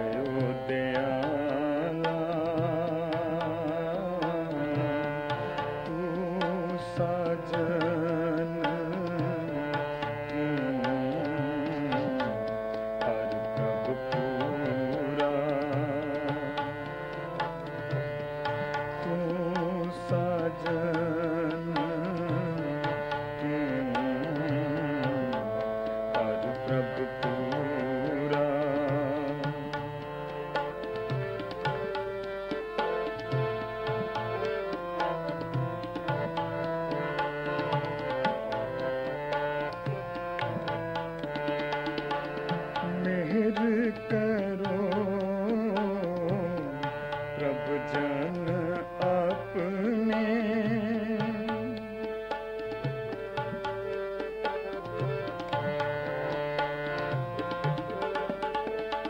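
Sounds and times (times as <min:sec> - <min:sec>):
harmonium melody: 0:00.0 - 0:59.0
tabla rhythm: 0:00.0 - 0:59.0.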